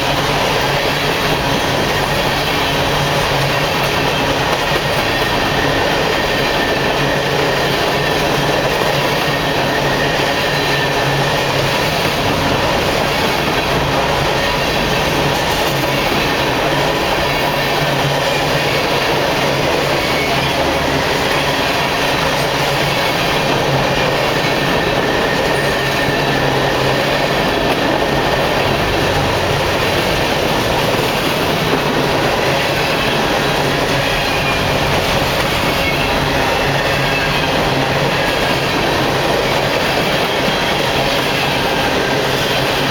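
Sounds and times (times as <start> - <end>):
train wheels on rails: 0.0 - 42.9.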